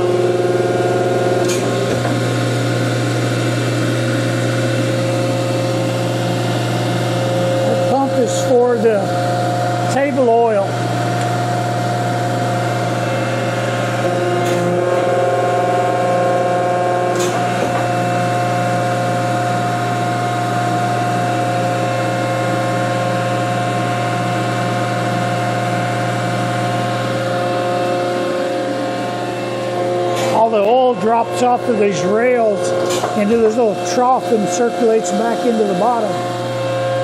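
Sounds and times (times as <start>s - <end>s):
hydraulic pump motor humming: 0.0s - 37.0s
steady whining tones: 0.0s - 37.0s.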